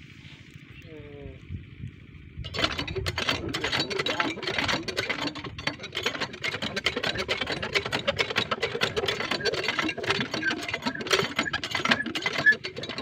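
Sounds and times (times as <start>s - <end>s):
water pump engine running: 2.4s - 13.0s.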